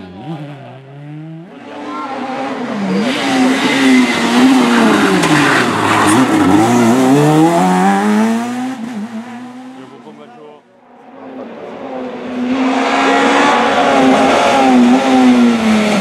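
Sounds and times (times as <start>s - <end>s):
rally car engine revving: 0.0s - 10.4s, 11.0s - 16.0s.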